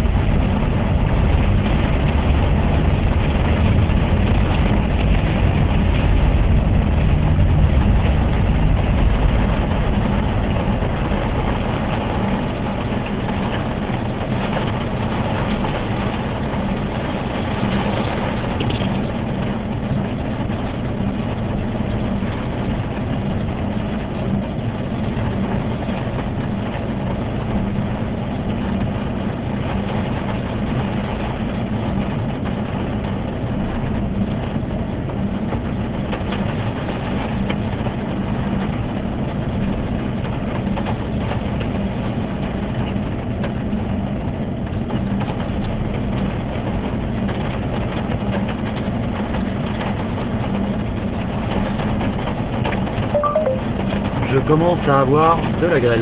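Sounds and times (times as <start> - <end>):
car engine hum: 0.0 - 56.0
rain ticking on windscreen: 0.0 - 56.0
road noise on wet tarmac: 0.0 - 56.0.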